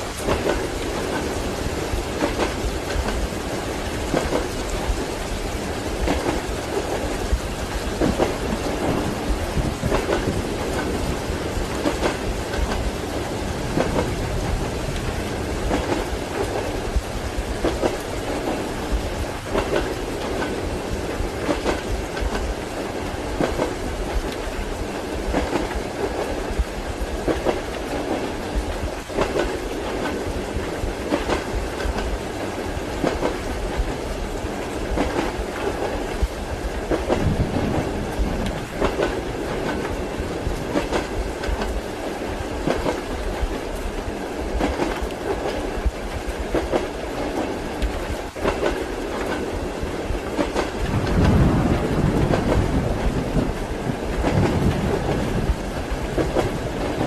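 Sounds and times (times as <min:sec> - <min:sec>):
rumble of moving train carriage: 0:00.0 - 0:57.0
train wheels clacking: 0:00.0 - 0:57.0.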